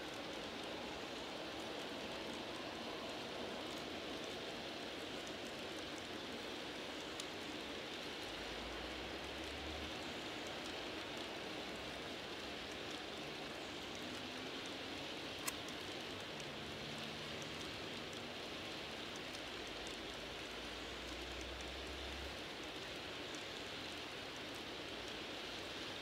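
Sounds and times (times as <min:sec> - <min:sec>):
faint clicks: 0:00.0 - 0:26.0
model train wheels hissing on rails: 0:00.0 - 0:26.0.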